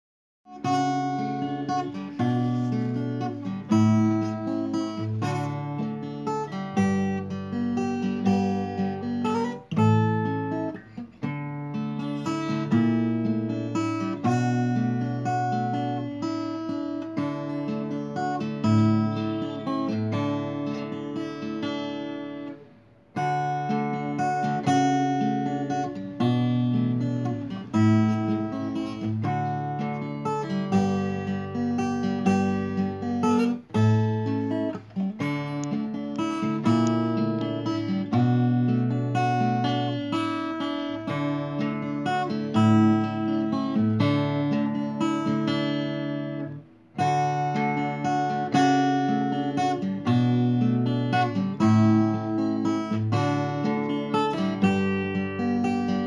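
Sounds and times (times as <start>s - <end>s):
acoustic guitar strumming: 0.5s - 56.0s.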